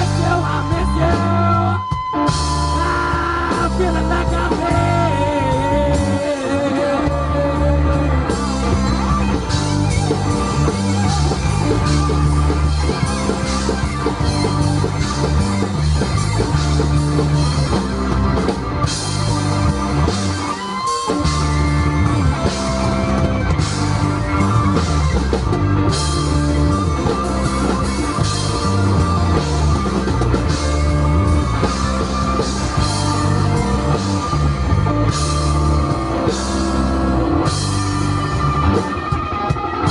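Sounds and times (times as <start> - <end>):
bass guitar pulse: 0.0 - 39.9
drum kit: 0.0 - 39.9
electric guitar: 0.0 - 39.9.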